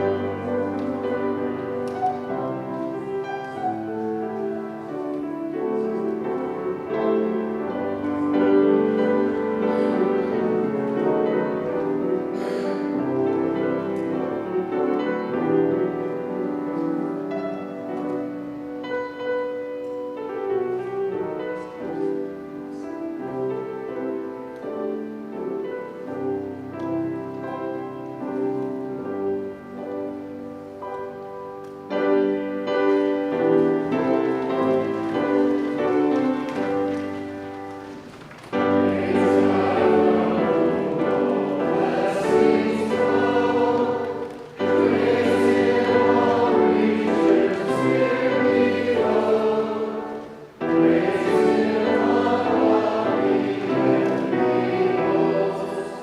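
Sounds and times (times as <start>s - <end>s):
piano playing chords and melody: 0.0s - 56.0s.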